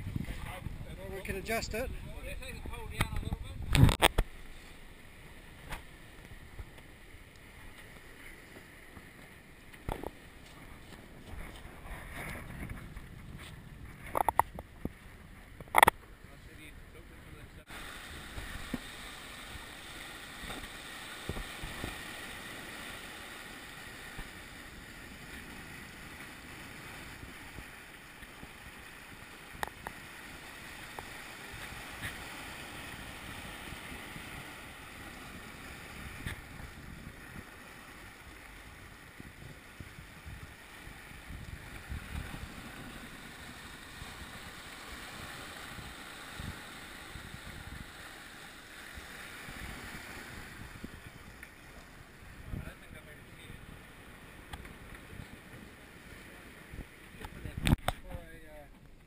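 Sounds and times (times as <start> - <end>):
wind buffeting microphone: 0.0 - 4.2, 9.8 - 18.8, 24.1 - 48.0, 48.9 - 59.0
water rushing along a hull: 0.0 - 59.0.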